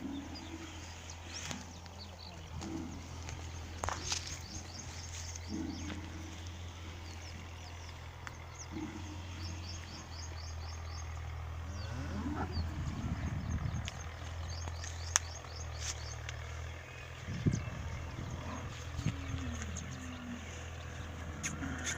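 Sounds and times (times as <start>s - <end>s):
bull lowing: 0.0s - 14.2s, 16.0s - 21.9s
small birds chirping: 0.0s - 21.9s
steady low hum: 0.0s - 21.9s.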